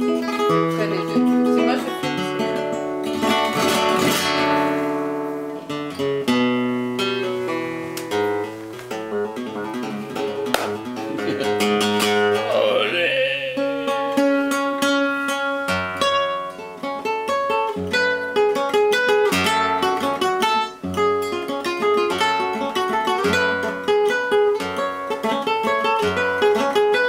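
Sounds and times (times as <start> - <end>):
flamenco guitar fingerstyle: 0.0 - 27.0.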